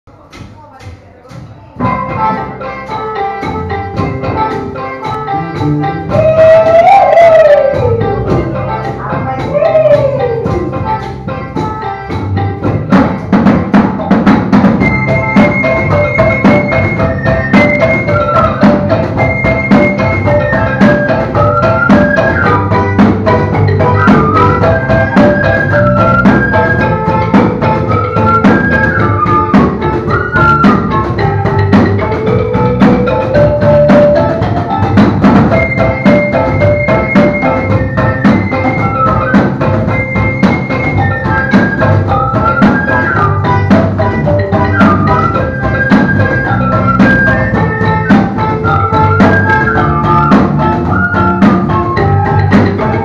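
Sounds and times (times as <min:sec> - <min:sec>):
hand drums beating: 0:00.1 - 0:53.0
mouth organ melody: 0:01.8 - 0:53.0
bamboo flute: 0:06.0 - 0:11.0, 0:14.7 - 0:53.0.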